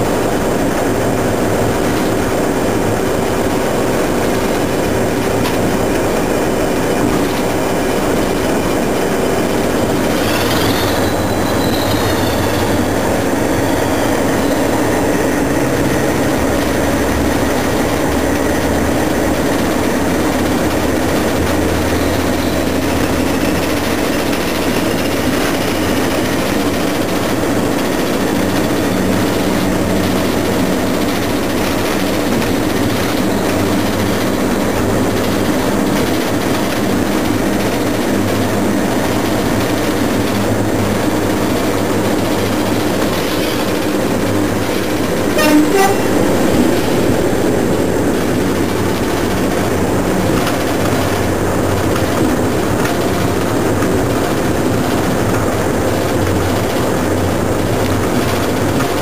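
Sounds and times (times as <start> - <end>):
train engine drone: 0.0 - 59.0
wheel-on-rail noise: 0.0 - 59.0.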